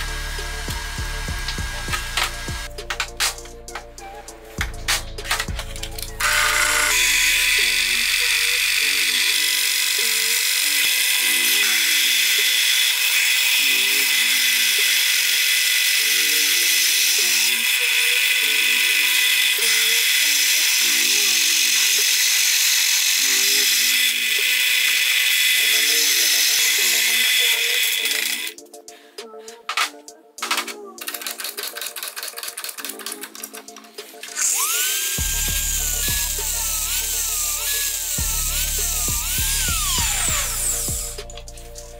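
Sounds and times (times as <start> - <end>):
drill press grinding steel: 0.0 - 4.1, 5.4 - 28.6, 34.2 - 41.4
background music: 0.0 - 41.9.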